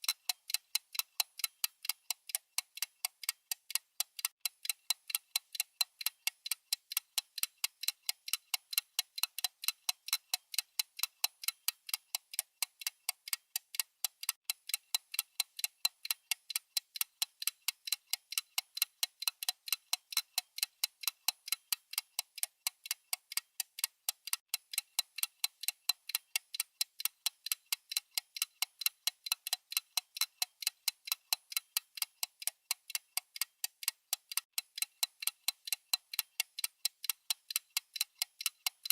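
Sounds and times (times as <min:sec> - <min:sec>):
timer ticking: 0:00.0 - 0:38.9.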